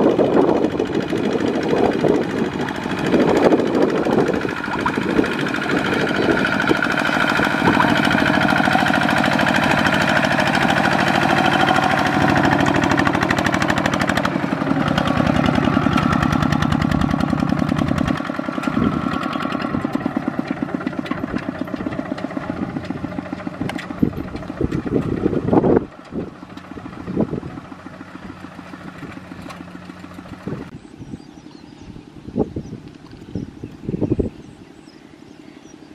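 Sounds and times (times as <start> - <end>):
diesel tractor engine chugging: 0.0 - 31.8.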